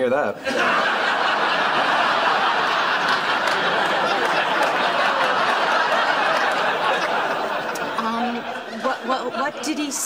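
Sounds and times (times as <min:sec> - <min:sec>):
studio audience laughing: 0:00.4 - 0:10.0.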